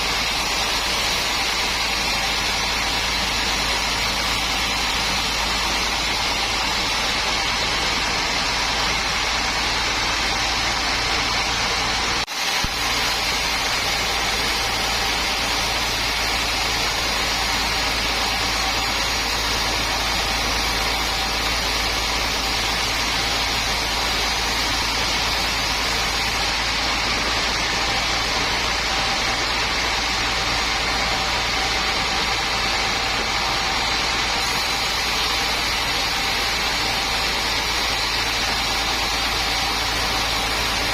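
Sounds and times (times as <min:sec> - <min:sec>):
machine whine: 0:00.0 - 0:40.9
sawmill machinery humming: 0:00.0 - 0:40.9.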